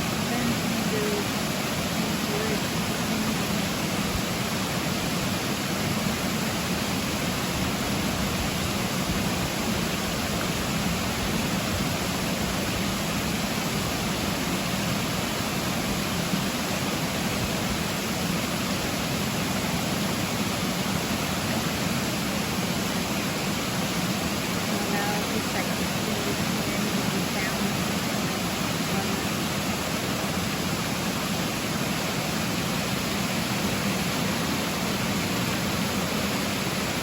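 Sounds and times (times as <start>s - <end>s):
running water rushing: 0.0s - 37.0s.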